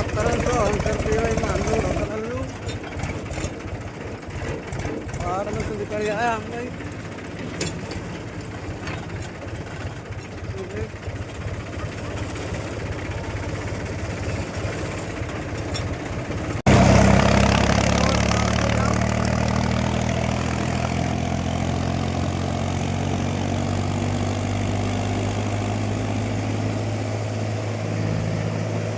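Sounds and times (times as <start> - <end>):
engine idling low hum: 0.0 - 28.9
tractor engine running: 0.0 - 28.9.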